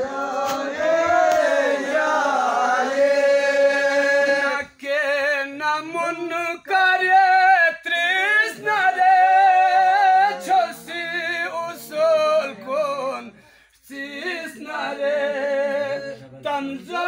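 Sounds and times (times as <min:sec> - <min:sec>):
men singing unaccompanied: 0:00.0 - 0:17.0.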